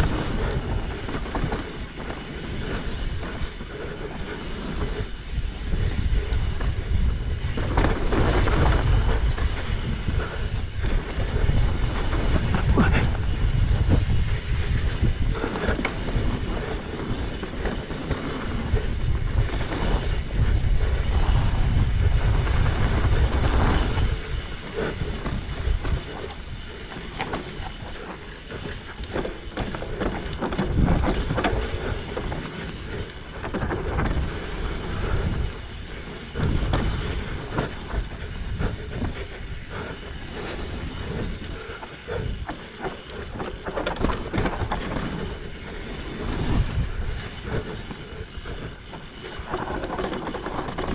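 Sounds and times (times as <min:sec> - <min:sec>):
bike rattling over bumps: 0:00.0 - 0:50.9
bike tyres rolling over dirt: 0:00.0 - 0:50.9
wind rushing over microphone: 0:00.0 - 0:50.9.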